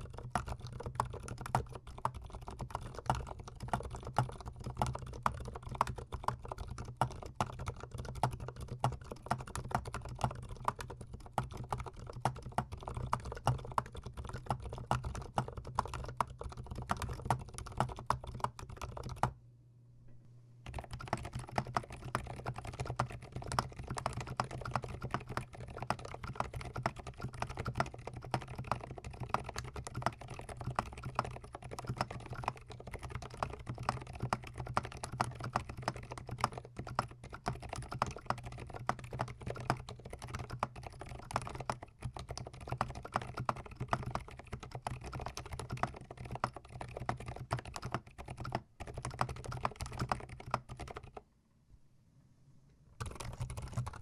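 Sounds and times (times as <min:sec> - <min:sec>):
fast mechanical keyboard typing: 0:00.0 - 0:19.3, 0:20.6 - 0:51.2, 0:53.0 - 0:54.0.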